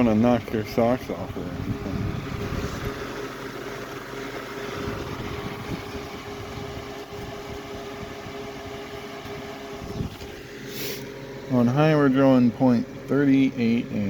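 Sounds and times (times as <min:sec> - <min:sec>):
electric fan air rush: 0:00.0 - 0:14.0
fan motor hum: 0:00.0 - 0:14.0.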